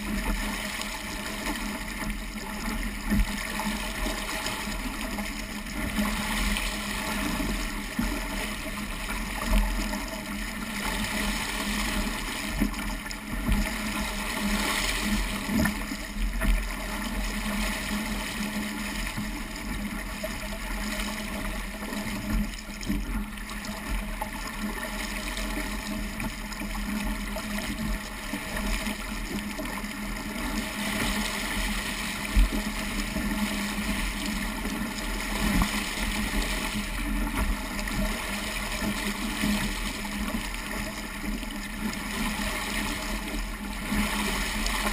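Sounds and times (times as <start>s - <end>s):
water rushing along boat hull: 0.0s - 44.9s.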